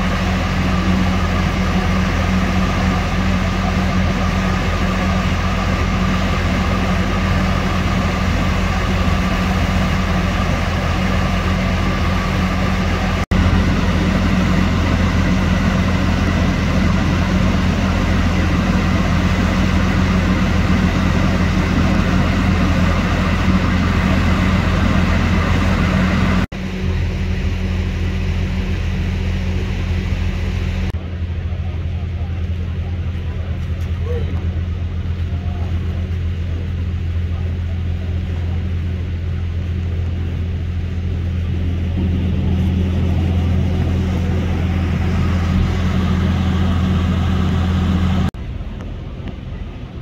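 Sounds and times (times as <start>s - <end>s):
heavy vehicle engine running: 0.0s - 50.0s.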